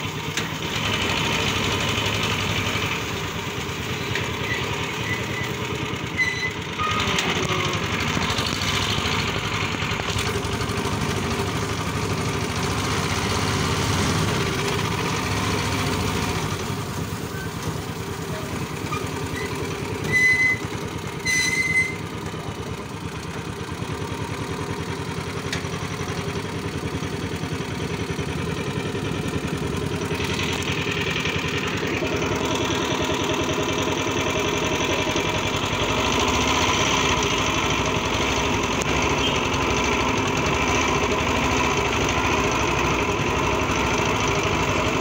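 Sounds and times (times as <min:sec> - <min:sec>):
vehicle rumbling and rattling: 0:00.0 - 0:45.0.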